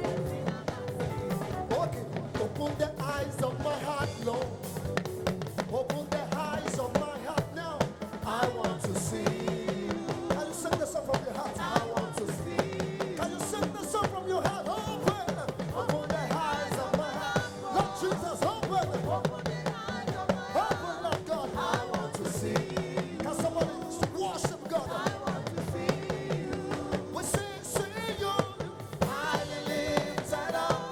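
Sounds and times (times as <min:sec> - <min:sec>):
drum and percussion strikes: 0:00.0 - 0:30.9
live band playing gospel groove: 0:00.0 - 0:30.9.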